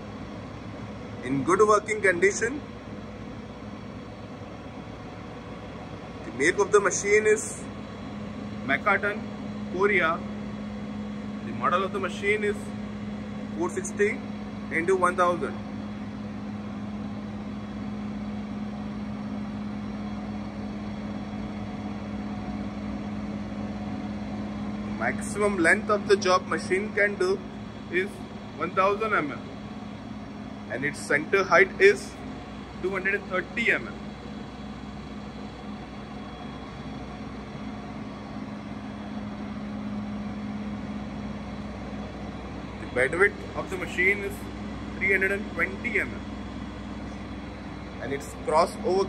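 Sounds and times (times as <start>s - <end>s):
machine hum with low drone: 0.0s - 49.0s.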